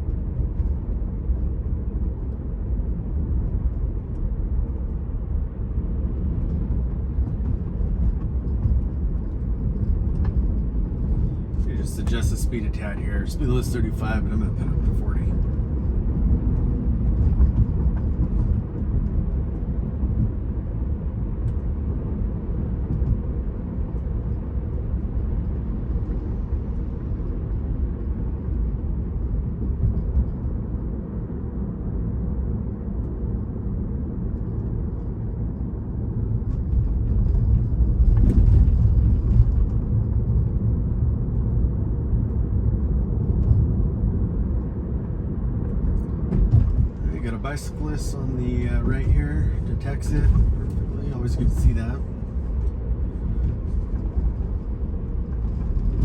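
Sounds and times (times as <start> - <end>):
road and tyre noise inside car: 0.0 - 56.0.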